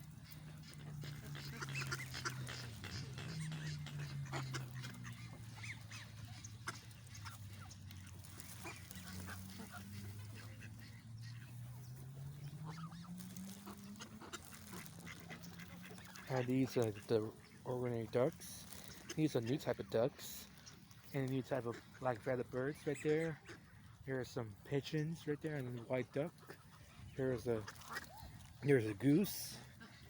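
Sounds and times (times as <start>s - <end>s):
ducks quacking: 0.0s - 30.0s
geese honking: 0.0s - 30.0s.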